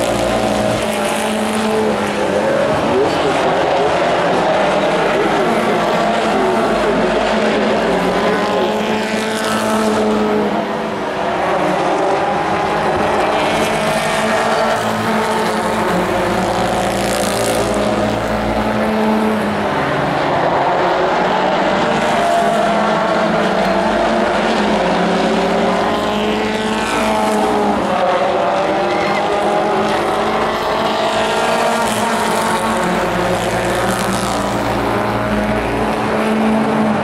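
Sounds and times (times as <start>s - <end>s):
racing truck engines revving: 0.0s - 37.0s.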